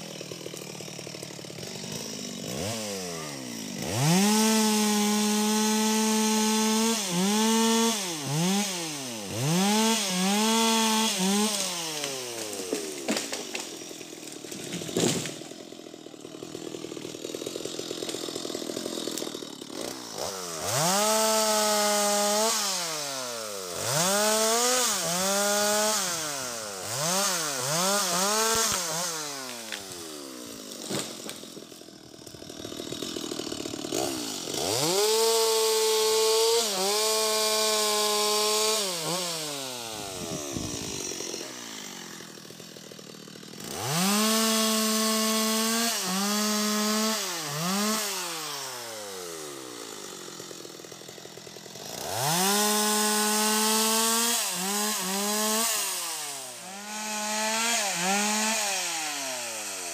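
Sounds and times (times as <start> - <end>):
chainsaw idling: 0.0 - 59.9
chainsaw revving: 0.0 - 59.9.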